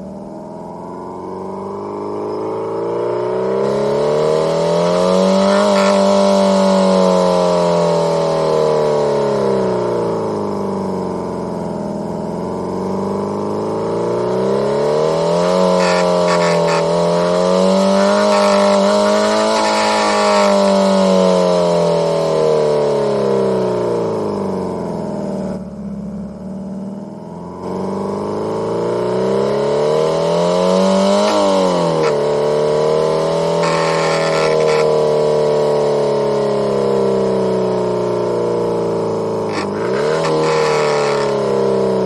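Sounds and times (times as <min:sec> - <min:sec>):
synthesized car engine accelerating: 0:00.0 - 0:42.0.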